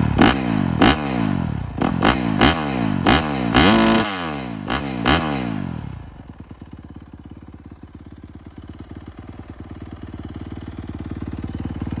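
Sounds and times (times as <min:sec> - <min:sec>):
motorcycle engine idling: 0:00.0 - 0:03.6, 0:04.4 - 0:12.0.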